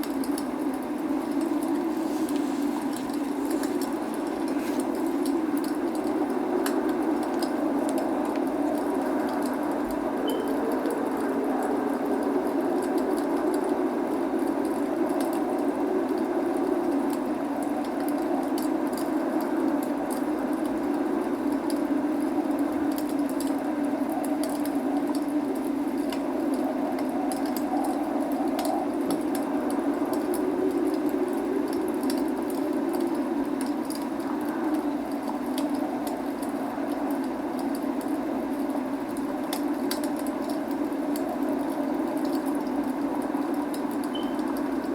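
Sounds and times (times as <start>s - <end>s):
log fire crackling: 0.0s - 44.9s
rushing rain: 0.0s - 44.9s.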